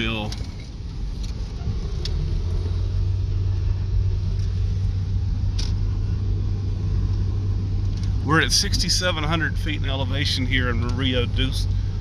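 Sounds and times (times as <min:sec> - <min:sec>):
car driving on gravel from inside: 0:00.0 - 0:12.0.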